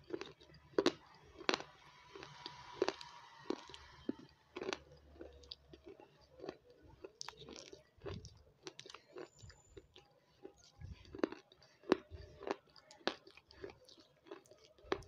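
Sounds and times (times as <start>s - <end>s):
person chewing crunchy food: 0.0s - 15.0s.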